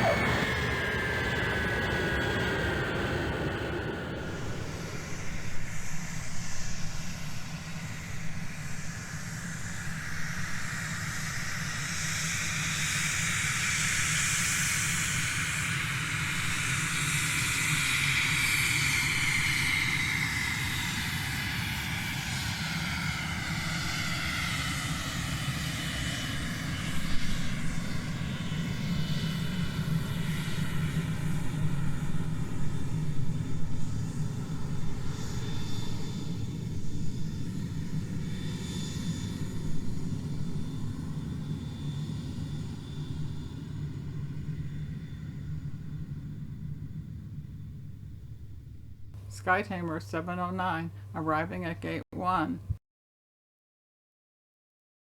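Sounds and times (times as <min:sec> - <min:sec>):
airliner engines droning: 0:00.0 - 0:52.8.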